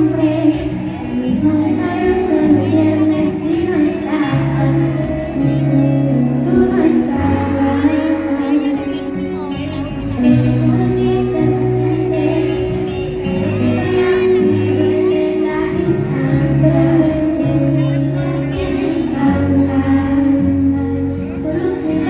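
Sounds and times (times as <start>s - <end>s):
band playing pop song: 0.0s - 22.0s
bass line: 0.0s - 22.0s
woman singing: 0.0s - 22.0s.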